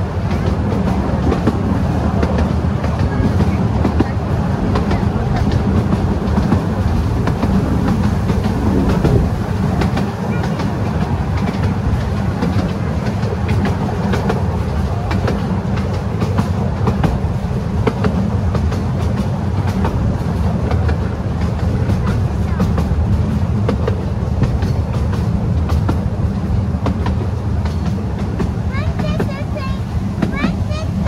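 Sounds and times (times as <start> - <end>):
wheels rumbling on rails: 0.0 - 31.0.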